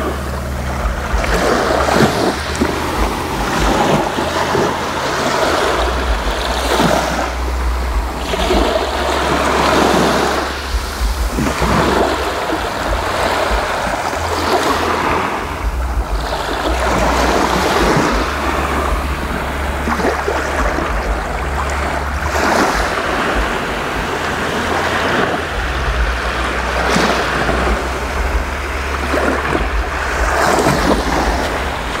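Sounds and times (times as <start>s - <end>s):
small waves breaking on sand: 0.0s - 32.0s
wind rumble on microphone: 0.0s - 32.0s.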